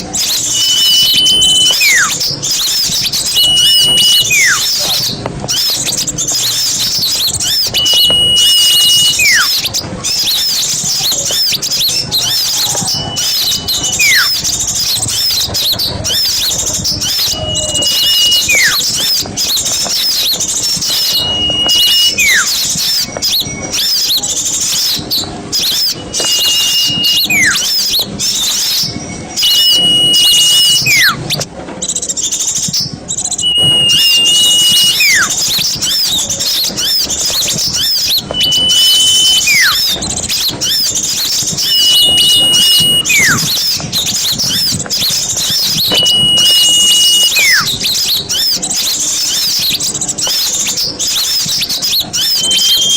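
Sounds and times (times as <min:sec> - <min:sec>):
songbirds chirping: 0:00.0 - 0:52.9
high whistle call falling in pitch: 0:00.1 - 0:31.5, 0:32.6 - 0:52.9.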